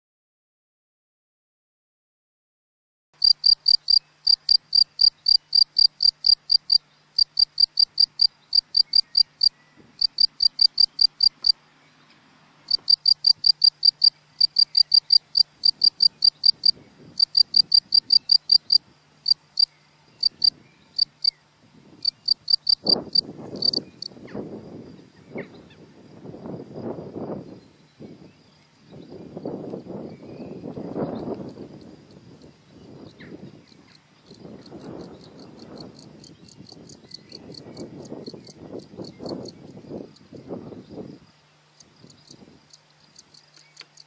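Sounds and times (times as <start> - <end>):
cricket chirping: 3.2 - 44.0.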